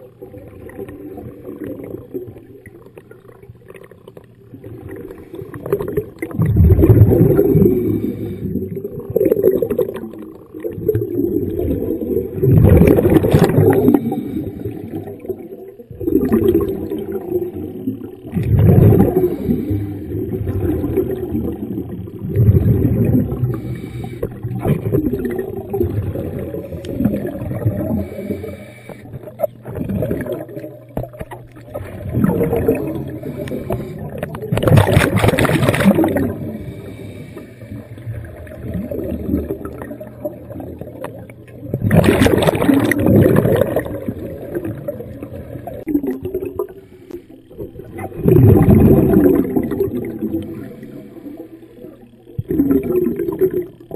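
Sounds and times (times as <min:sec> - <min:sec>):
underwater regulator bubbles gurgling: 0:00.0 - 0:53.9.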